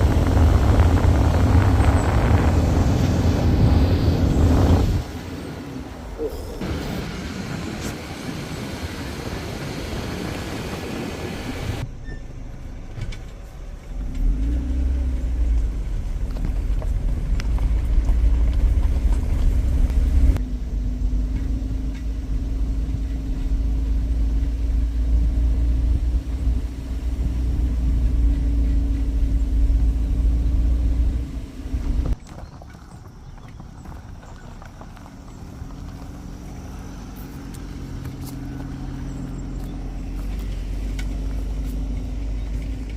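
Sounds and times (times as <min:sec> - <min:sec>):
vehicle engine running: 0:00.0 - 0:32.2, 0:32.9 - 0:42.9.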